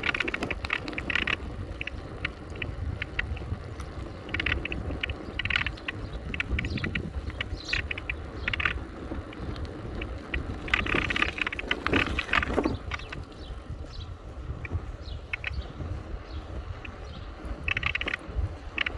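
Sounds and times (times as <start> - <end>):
bicycle rattling on uneven path: 0.0 - 18.9
wind rumble on microphone: 0.0 - 18.9.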